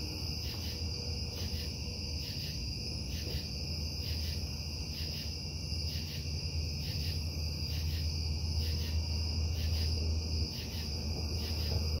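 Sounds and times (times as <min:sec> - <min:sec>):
crickets chirping: 0:00.0 - 0:12.0
low industrial hum: 0:00.0 - 0:12.0.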